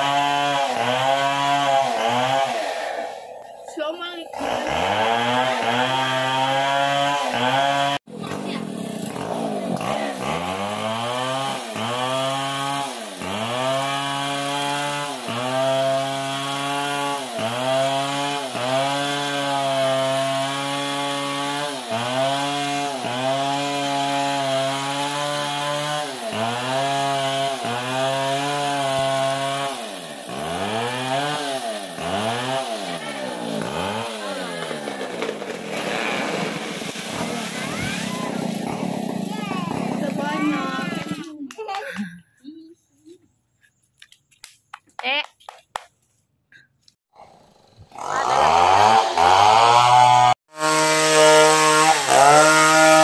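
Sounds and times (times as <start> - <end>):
chainsaw cutting wood: 0.0 - 42.1, 47.2 - 53.0.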